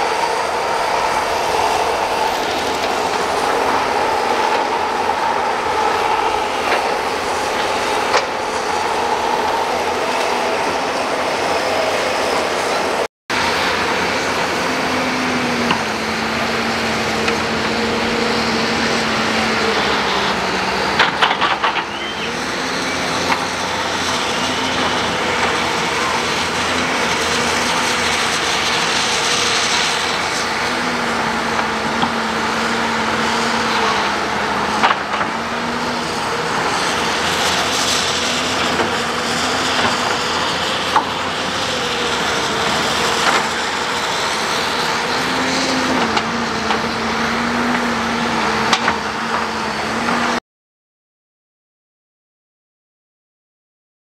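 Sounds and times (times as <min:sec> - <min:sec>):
excavator diesel engines: 0:00.0 - 0:50.4.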